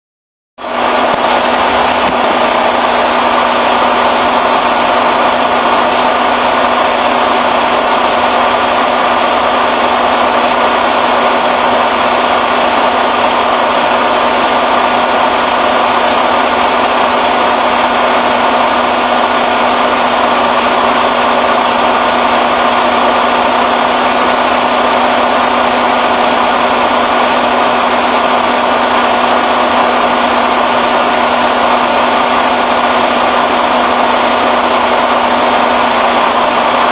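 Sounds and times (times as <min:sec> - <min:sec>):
truck engine droning: 0:00.6 - 0:36.9.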